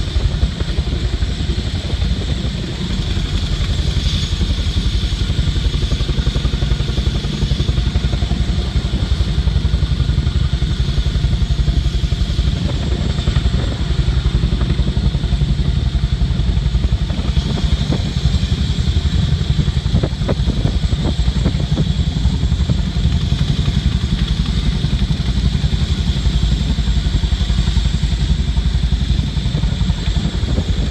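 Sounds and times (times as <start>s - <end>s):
helicopter rotor blades beating: 0.0s - 30.9s.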